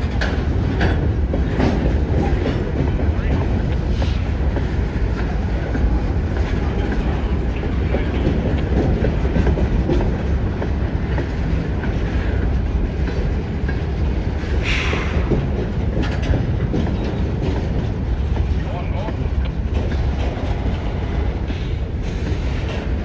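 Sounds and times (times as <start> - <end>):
freight train rumbling past: 0.0 - 23.0
train wheel clicks: 0.0 - 23.0.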